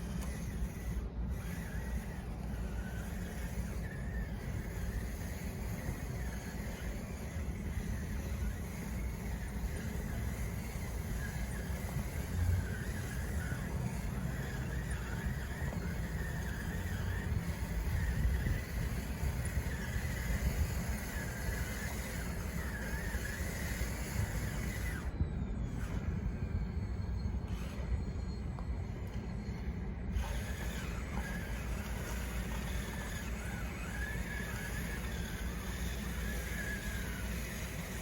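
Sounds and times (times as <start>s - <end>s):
electric motors whining: 0.0s - 38.0s.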